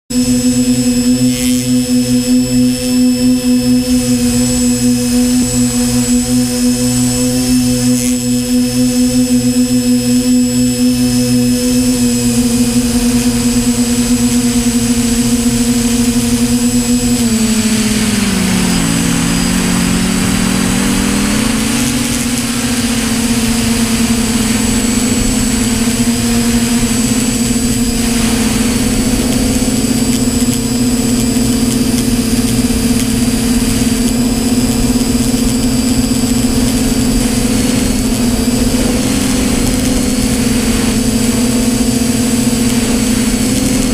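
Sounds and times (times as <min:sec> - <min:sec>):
drone motors humming: 0:00.1 - 0:43.9.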